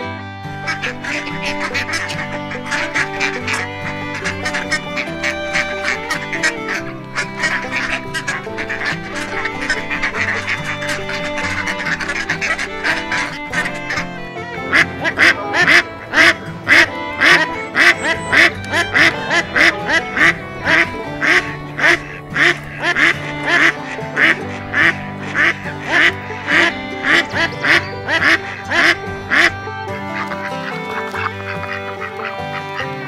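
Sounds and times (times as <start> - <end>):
background music: 0.0 - 33.0
duck quacking: 0.6 - 33.0.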